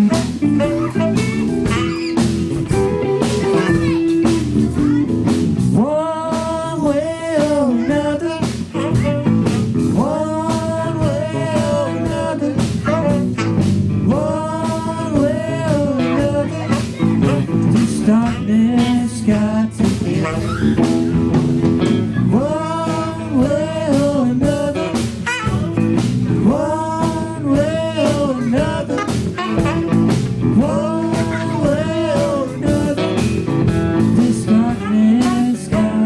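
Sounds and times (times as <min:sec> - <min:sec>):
guitar melody: 0:00.0 - 0:36.0
live blues-rock band: 0:00.0 - 0:36.0.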